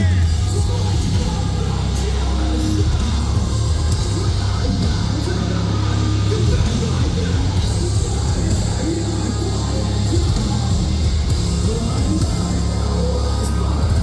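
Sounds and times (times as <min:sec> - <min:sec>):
metalcore band playing live: 0:00.0 - 0:14.0.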